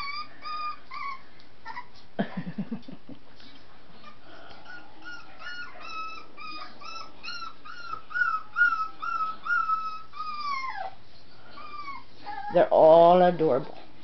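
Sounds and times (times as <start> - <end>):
puppy whimpering: 0.0 - 2.0, 4.0 - 13.9.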